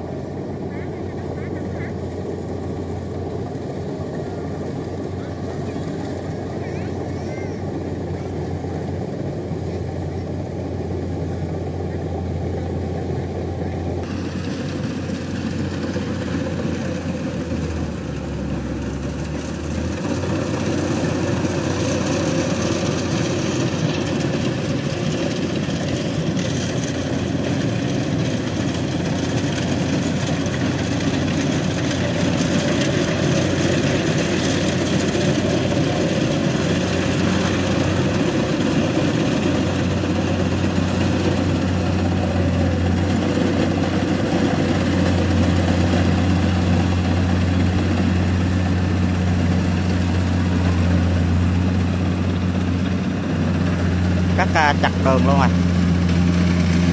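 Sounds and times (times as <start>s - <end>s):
combine harvester engine running: 0.0s - 56.9s.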